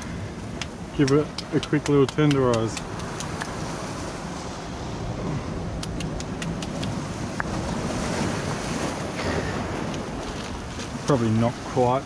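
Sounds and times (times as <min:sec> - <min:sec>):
surf on a rocky shore: 0:00.0 - 0:12.0
wind: 0:00.0 - 0:12.0.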